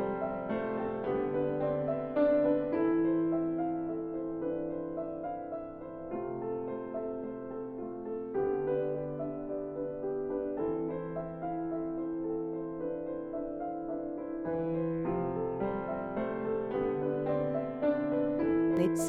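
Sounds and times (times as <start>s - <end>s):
slow soft piano chords: 0.0s - 19.0s.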